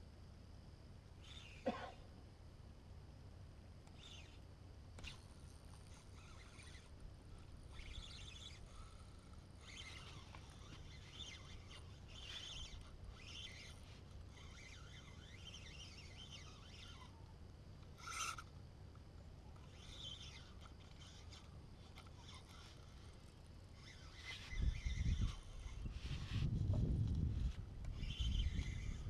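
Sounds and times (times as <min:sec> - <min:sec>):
small birds chirping: 0:03.8 - 0:18.5, 0:19.1 - 0:26.6, 0:27.3 - 0:29.0.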